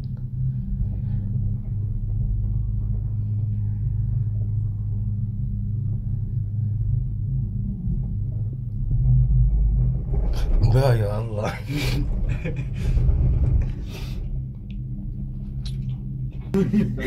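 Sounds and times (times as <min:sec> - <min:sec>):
gondola cabin rumble and hum: 0:00.0 - 0:17.0.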